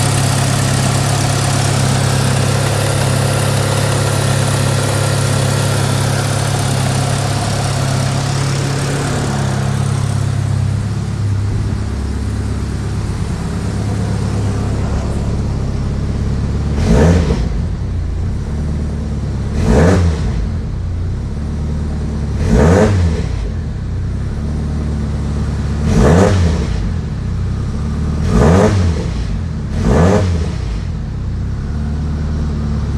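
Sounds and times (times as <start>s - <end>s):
car engine idling: 0.0s - 32.9s
engine revving: 0.0s - 32.9s.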